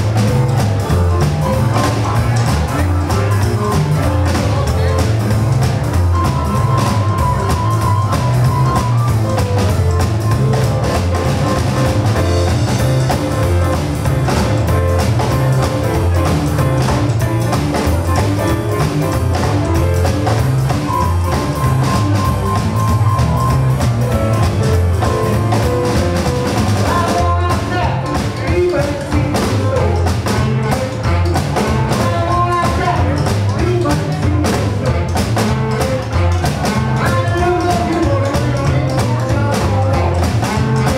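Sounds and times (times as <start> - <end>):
rock and roll band playing: 0.0 - 40.9.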